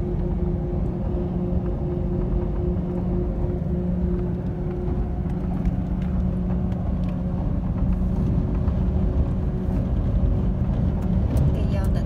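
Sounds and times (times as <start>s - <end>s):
car engine hum: 0.0s - 12.0s
road noise rumble: 0.0s - 12.0s.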